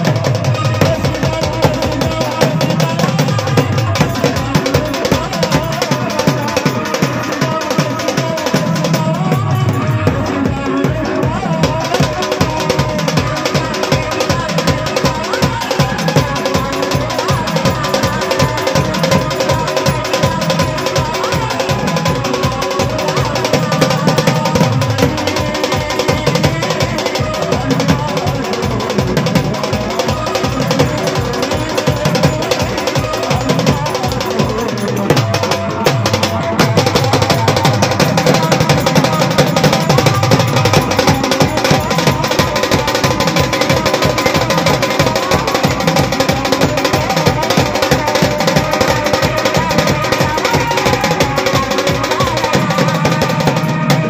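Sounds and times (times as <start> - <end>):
hand drums beating: 0.0 - 54.0.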